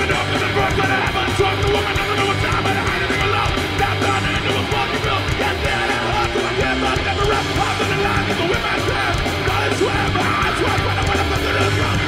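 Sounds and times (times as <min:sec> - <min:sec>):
punk band playing live: 0:00.0 - 0:12.0.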